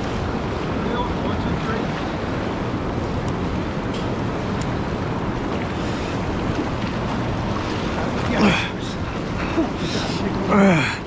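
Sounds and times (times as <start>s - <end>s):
river water flowing: 0.0s - 11.0s
wind buffeting microphone: 0.0s - 11.0s.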